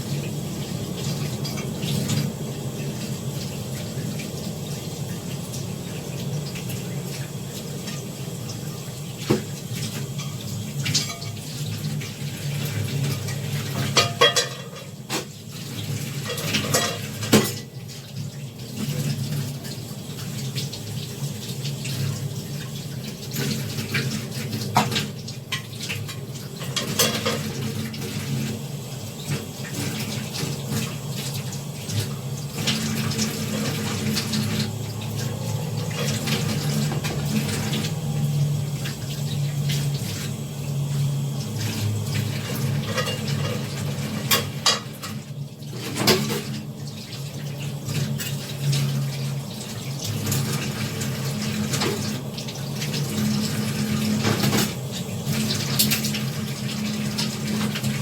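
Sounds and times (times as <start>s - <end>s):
tap water running: 0.0s - 58.0s.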